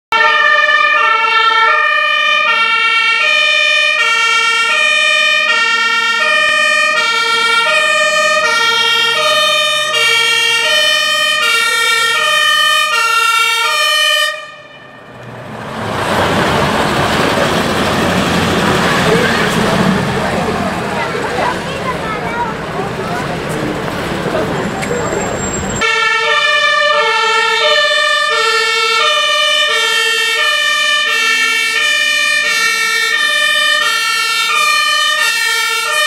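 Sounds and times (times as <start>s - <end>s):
two-tone fire engine siren: 0.1s - 21.6s, 25.0s - 36.0s
truck engine and road noise: 0.1s - 36.0s.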